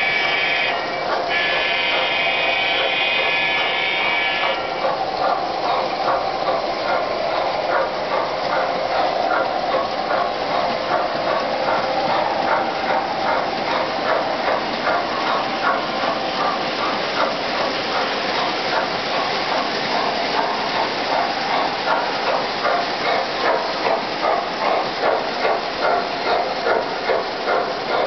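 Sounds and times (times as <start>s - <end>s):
model train motors humming: 0.0s - 28.0s
wheels ticking over track: 0.0s - 28.0s.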